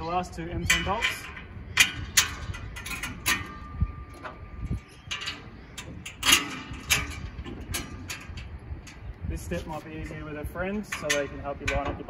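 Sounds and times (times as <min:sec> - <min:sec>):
steel bike rack clanking: 0:00.0 - 0:12.0.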